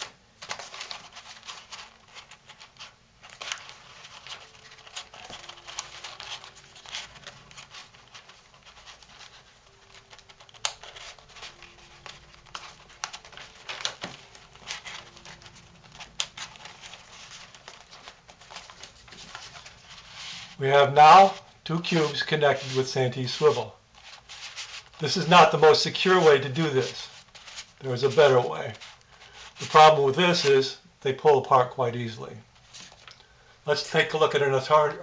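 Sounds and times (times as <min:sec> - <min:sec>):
paper rustling and crinkling: 0:00.0 - 0:30.6, 0:32.4 - 0:34.1.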